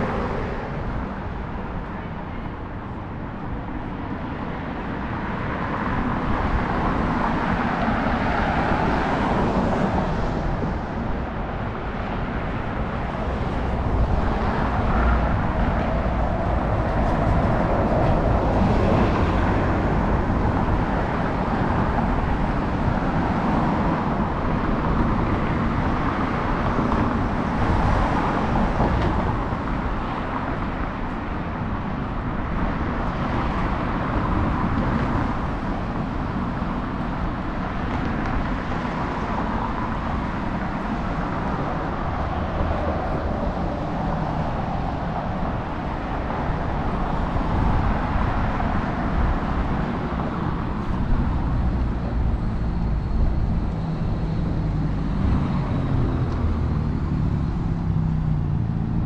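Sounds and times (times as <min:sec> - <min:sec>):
cars passing on busy street: 0:00.0 - 0:59.0.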